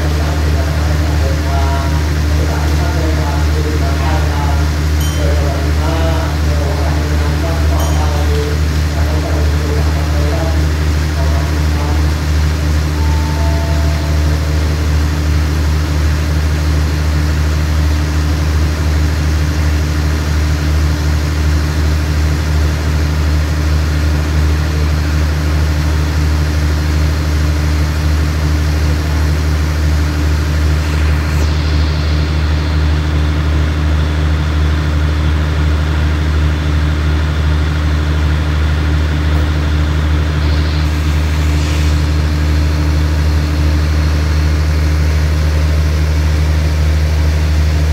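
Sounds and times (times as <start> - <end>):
train diesel engine idling: 0.0 - 47.9.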